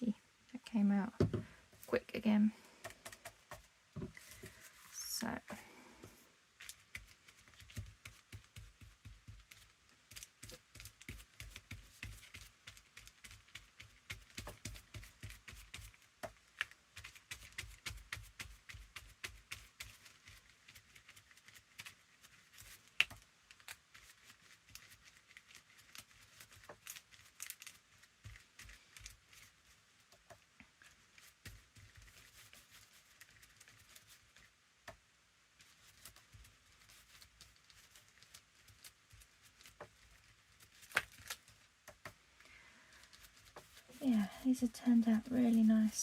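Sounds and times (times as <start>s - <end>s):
paper rustling: 2.8s - 34.6s, 35.5s - 42.2s, 42.8s - 46.0s.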